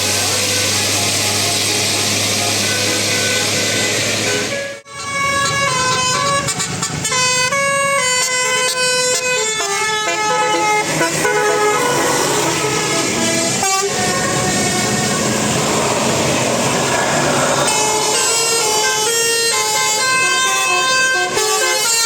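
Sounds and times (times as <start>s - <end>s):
multi-tone air horn melody: 0.0s - 15.7s, 17.6s - 22.0s
engine and street noise: 0.0s - 22.0s.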